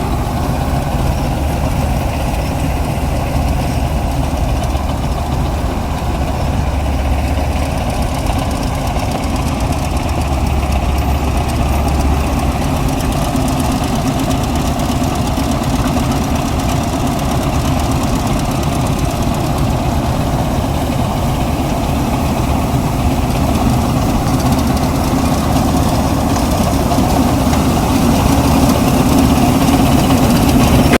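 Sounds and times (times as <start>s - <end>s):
farm machinery diesel engine: 0.0s - 31.0s.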